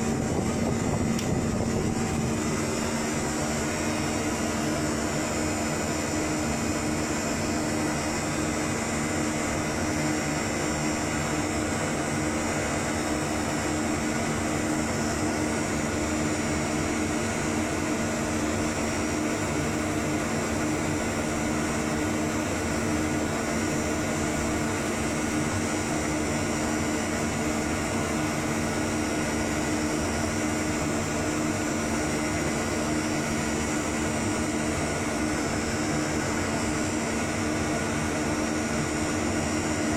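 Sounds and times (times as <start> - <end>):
constant low hum: 0.0 - 39.9
cooling fans whirring: 0.0 - 39.9.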